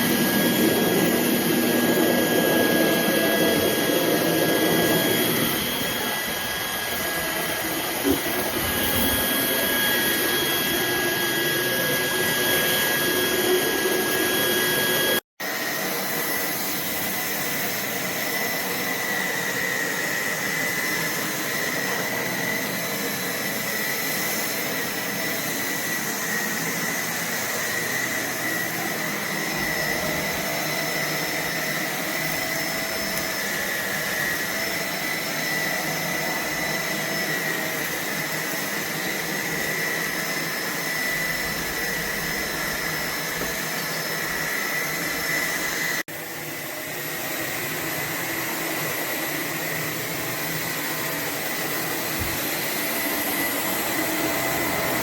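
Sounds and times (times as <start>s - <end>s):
stick vacuum running: 0.0s - 55.0s.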